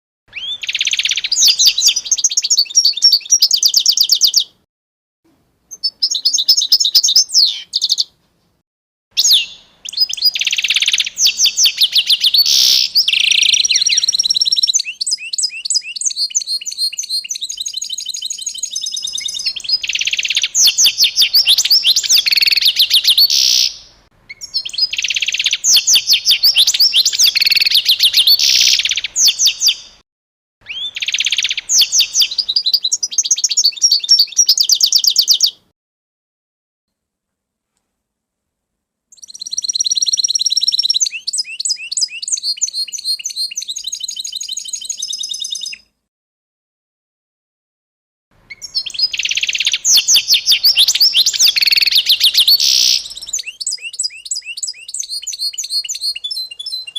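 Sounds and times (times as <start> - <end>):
songbirds chirping: 0.3 - 4.6, 5.3 - 8.3, 9.2 - 30.0, 30.6 - 35.7, 39.1 - 45.9, 48.4 - 56.9.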